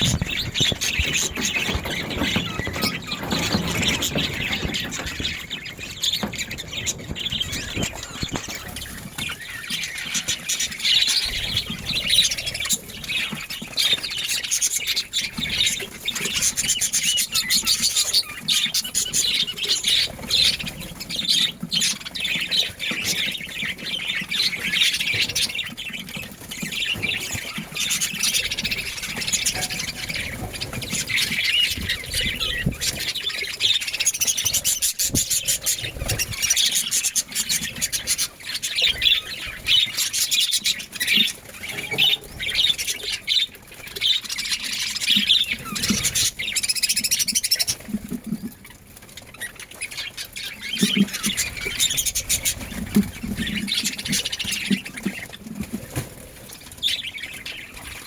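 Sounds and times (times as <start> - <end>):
budgerigars chattering: 0.0 - 47.8.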